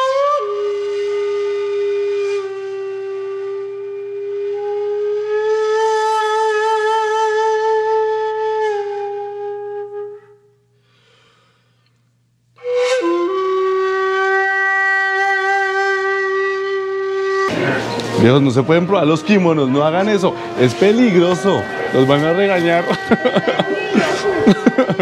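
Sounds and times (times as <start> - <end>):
flute-like long held notes: 0.0 - 11.4, 12.6 - 25.0.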